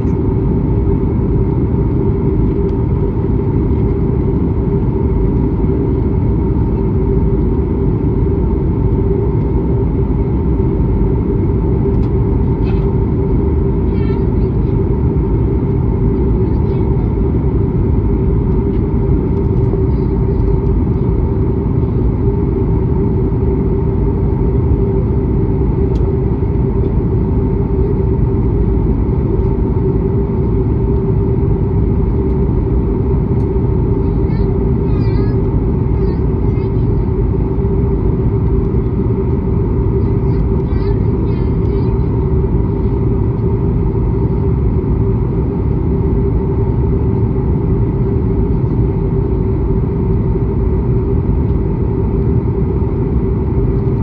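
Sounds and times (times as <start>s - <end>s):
airliner engine drone: 0.0s - 54.0s.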